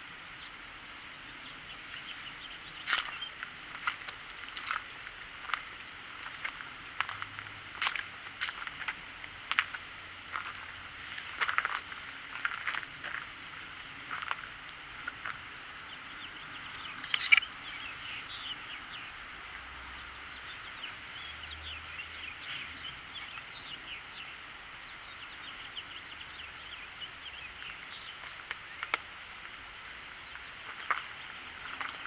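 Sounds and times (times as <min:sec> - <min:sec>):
birds chirping: 0:00.2 - 0:32.0.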